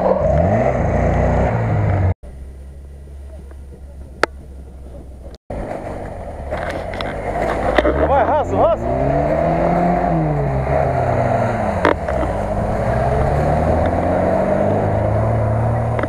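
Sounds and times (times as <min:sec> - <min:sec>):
low engine rumble: 0:00.0 - 0:16.0
off-road engine revving: 0:00.0 - 0:16.0.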